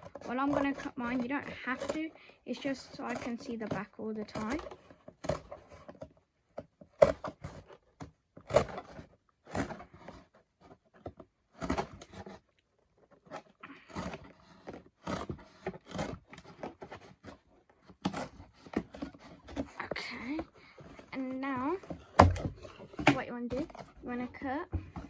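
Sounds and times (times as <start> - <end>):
cardboard box being cut: 0.0 - 25.0.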